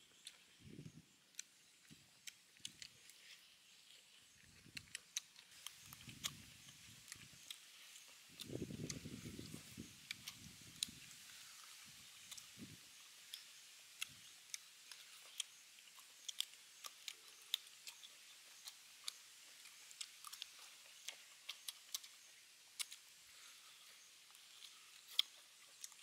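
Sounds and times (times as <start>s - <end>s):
crisp chewing and smacks: 0.0s - 26.0s
faint steady hiss: 0.0s - 26.0s.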